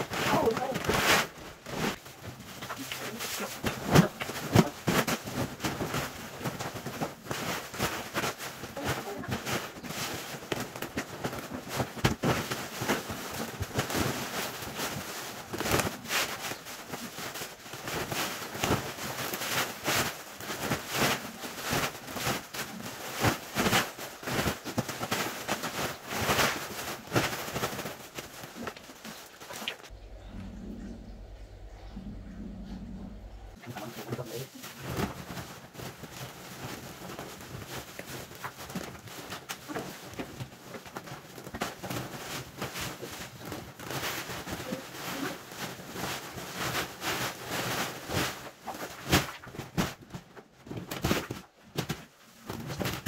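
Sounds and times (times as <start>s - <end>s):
plastic bag rustling and crinkling: 0.0s - 53.0s.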